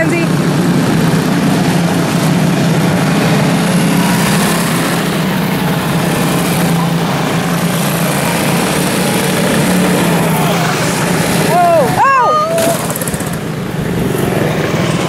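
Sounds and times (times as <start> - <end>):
small race car engines droning: 0.0 - 15.0.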